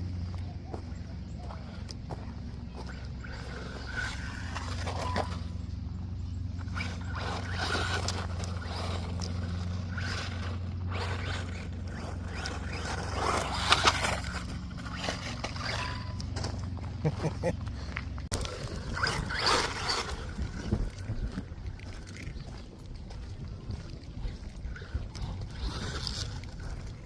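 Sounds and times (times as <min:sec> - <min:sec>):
toy car motor and tyre noise: 0:01.4 - 0:27.0.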